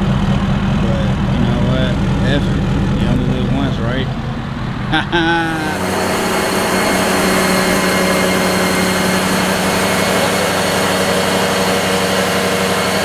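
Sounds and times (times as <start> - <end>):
even rushing noise: 0.0 - 12.9
machinery low hum: 0.0 - 13.0.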